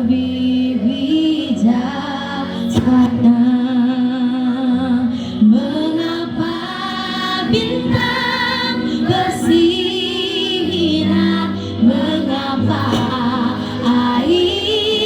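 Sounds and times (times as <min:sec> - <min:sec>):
choir singing long notes: 0:00.0 - 0:15.0.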